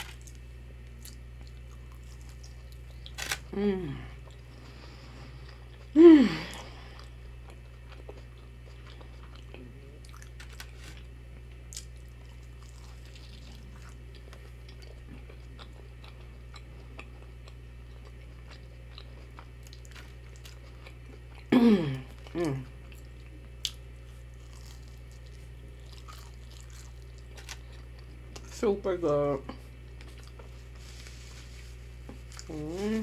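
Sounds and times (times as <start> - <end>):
chewing crunches: 0.0 - 3.5, 6.5 - 28.6, 29.6 - 33.0.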